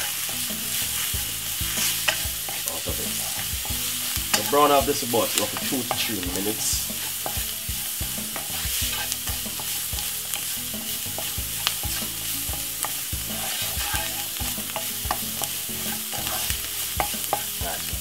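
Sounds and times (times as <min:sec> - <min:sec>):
onion sizzling in oil: 0:00.0 - 0:18.0
wooden spoon knocking and scraping pan: 0:00.0 - 0:18.0.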